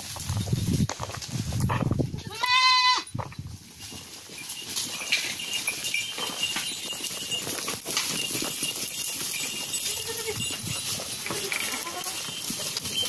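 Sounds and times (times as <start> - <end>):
hooves walking on dry leaves: 0.0 - 13.0.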